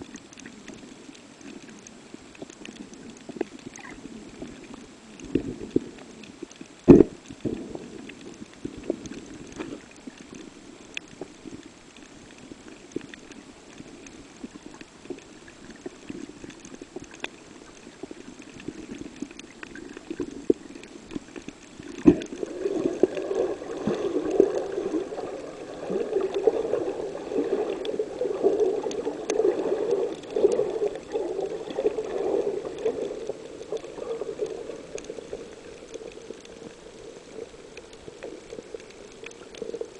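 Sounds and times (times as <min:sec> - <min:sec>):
bubbling gurgle: 0:00.0 - 0:39.9
muffled underwater noise: 0:00.0 - 0:39.9.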